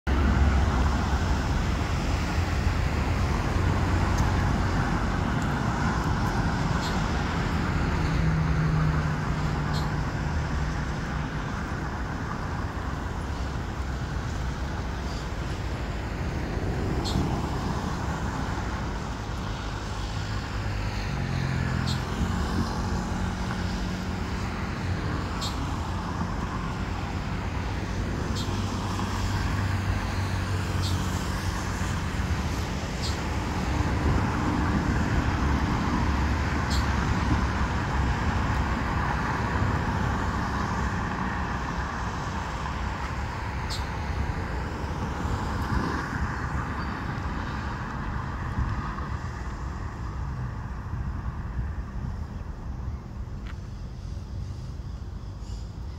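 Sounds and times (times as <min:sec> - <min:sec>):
cars driving past: 0:00.1 - 0:55.9.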